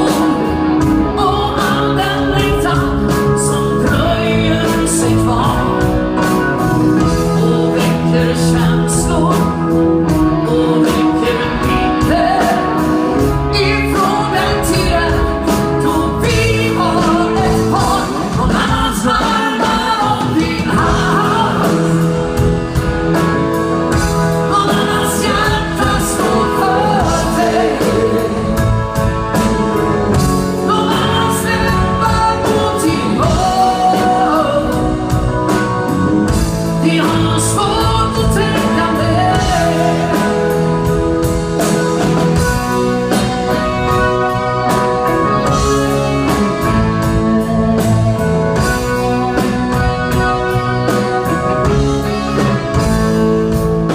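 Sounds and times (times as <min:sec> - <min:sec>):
band playing a song: 0:00.0 - 0:53.9
lead singer singing: 0:00.0 - 0:53.9
steady drum beat: 0:00.0 - 0:53.9.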